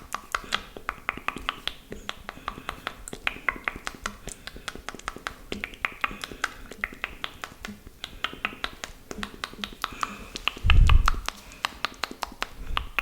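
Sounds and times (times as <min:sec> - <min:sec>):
lip smacks and tongue clicks: 0:00.0 - 0:13.0.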